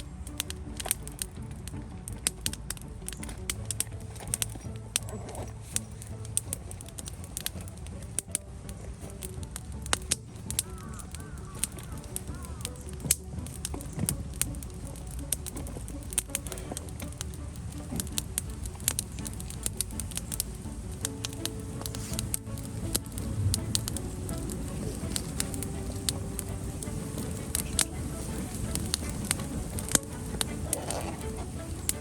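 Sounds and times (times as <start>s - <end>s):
campfire crackling and popping: 0.0s - 32.0s
low rumble of burning fire: 0.0s - 32.0s.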